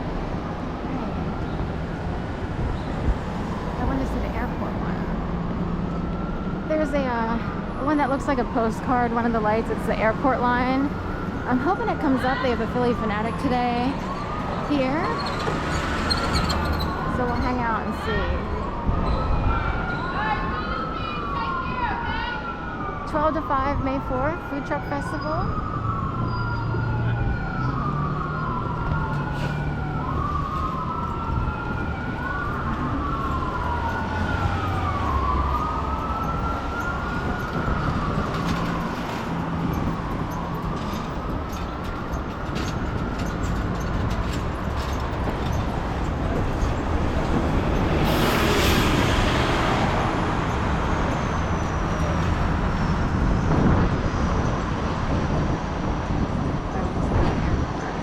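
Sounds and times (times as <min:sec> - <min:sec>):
city traffic noise: 0:00.0 - 0:58.0
emergency siren wailing: 0:00.0 - 0:58.0.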